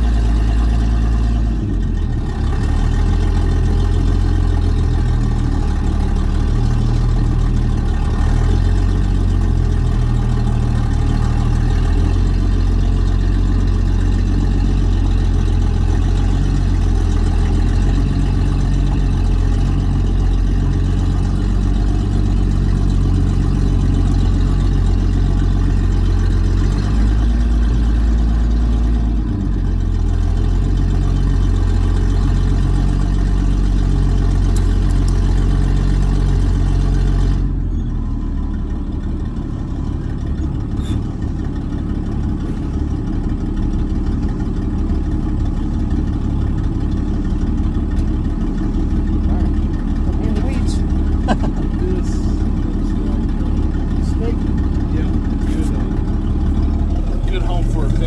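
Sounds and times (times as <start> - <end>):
pickup truck engine running: 0.0 - 58.0
rough uneven low rumble: 0.0 - 58.0.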